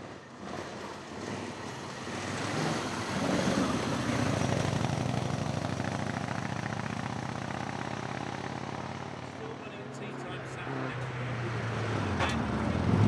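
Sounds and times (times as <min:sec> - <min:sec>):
racing car engine full throttle: 0:00.0 - 0:13.0.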